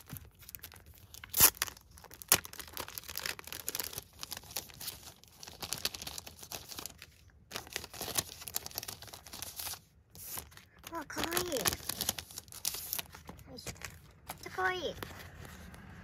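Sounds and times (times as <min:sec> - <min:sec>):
plastic packaging crinkling: 0:00.0 - 0:15.7.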